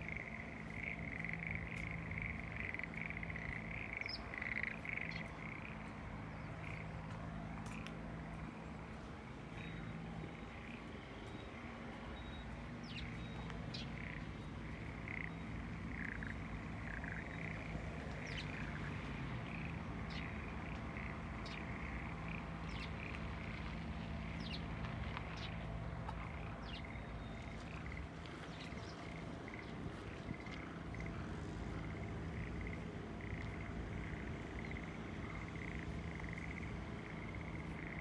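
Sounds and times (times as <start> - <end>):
frogs croaking: 0.0 - 38.0
steady low hum: 0.0 - 38.0.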